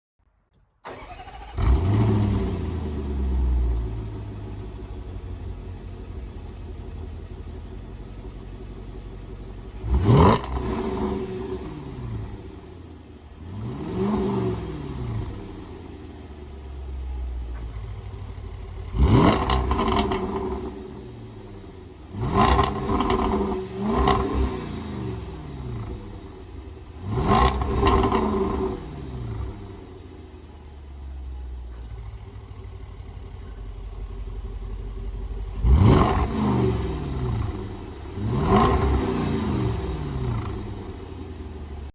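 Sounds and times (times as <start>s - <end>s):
car engine starting and idling: 0.2s - 41.9s
engine revving throttle blips: 0.8s - 5.2s, 9.6s - 12.7s, 13.4s - 16.0s, 16.6s - 30.6s, 31.2s - 41.9s.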